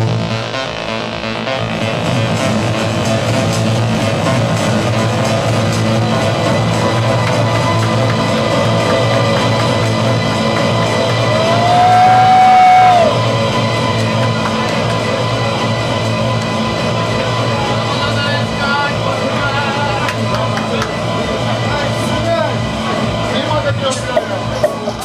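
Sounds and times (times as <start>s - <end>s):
club dance music: 0.0s - 25.0s.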